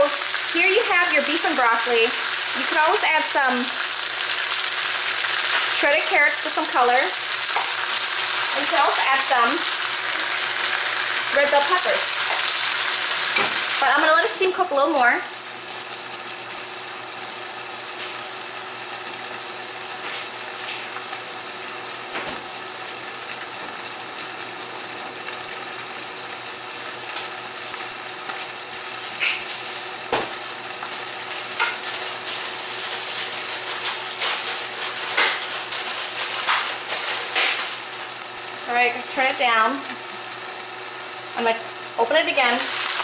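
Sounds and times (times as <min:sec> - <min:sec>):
food sizzling in a covered pan: 0:00.0 - 0:43.0.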